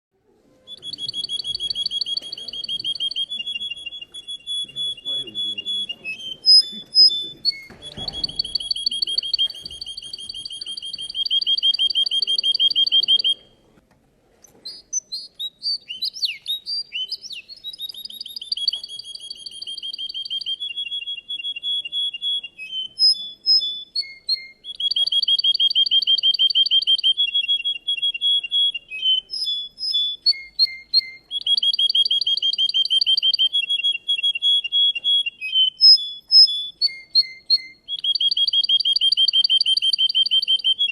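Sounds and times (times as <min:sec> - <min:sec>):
canary singing trills: 0:00.6 - 0:13.6, 0:14.4 - 0:40.9.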